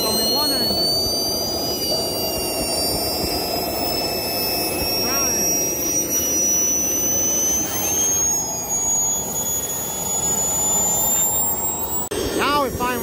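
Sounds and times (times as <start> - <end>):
turbojet engines whining: 0.0 - 13.0.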